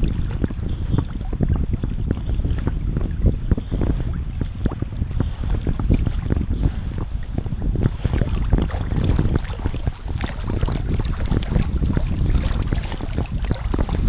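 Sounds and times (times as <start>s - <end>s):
water splashing and sloshing: 0.0s - 14.0s
wind on microphone: 0.0s - 14.0s.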